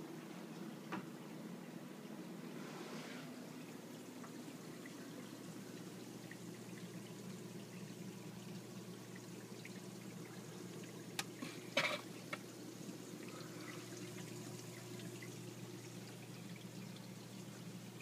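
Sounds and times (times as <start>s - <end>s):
water pouring and splashing: 2.4s - 18.0s.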